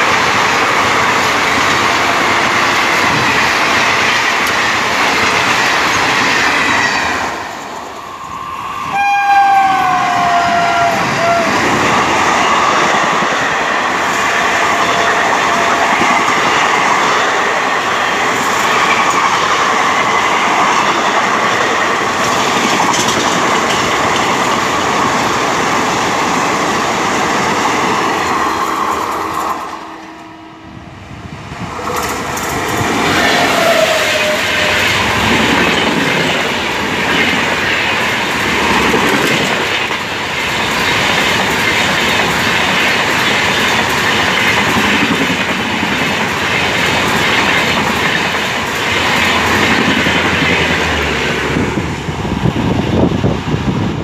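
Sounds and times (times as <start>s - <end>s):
clickety-clack over rail joints: 0.0s - 8.0s, 11.0s - 30.2s, 31.5s - 54.0s
train wheels rushing on rails: 0.0s - 54.0s.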